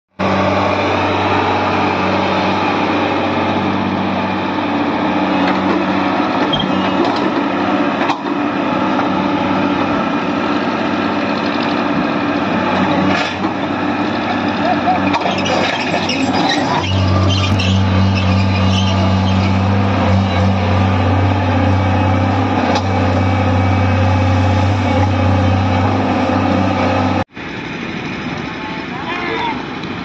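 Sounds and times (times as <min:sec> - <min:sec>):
excavator diesel engine running: 0:00.1 - 0:30.0.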